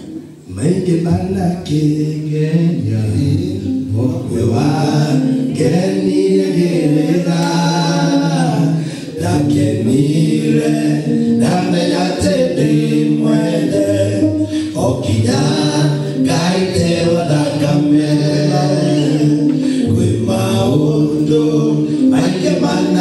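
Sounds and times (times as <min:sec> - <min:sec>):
men singing a cappella: 0:00.5 - 0:23.0.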